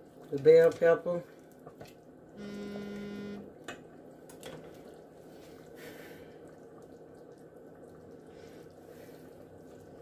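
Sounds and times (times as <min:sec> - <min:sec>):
liquid bubbling in pressure cooker: 0:00.0 - 0:10.0.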